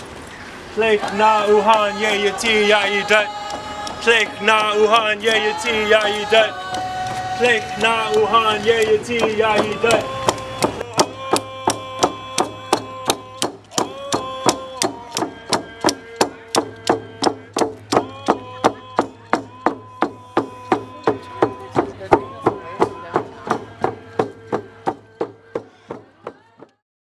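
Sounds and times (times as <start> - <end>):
group singing held notes: 0.8 - 26.0
hand drums beating: 3.4 - 26.8.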